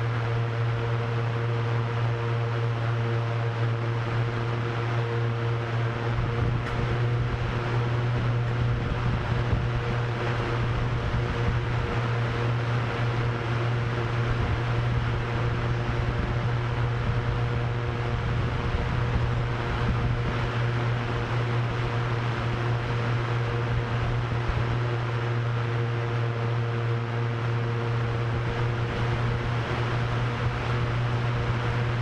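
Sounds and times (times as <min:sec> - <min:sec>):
drone propellers humming: 0:00.0 - 0:32.0.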